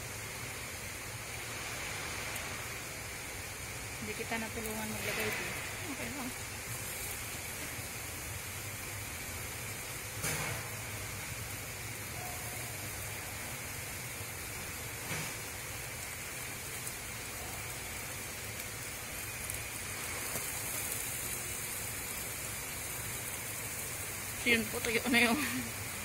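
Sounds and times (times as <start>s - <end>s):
batter sizzling in a hot pan: 0.0s - 26.0s.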